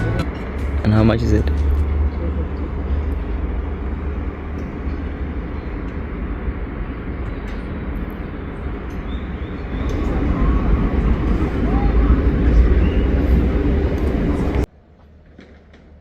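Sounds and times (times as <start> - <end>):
moving vehicle rumble: 0.0 - 16.0.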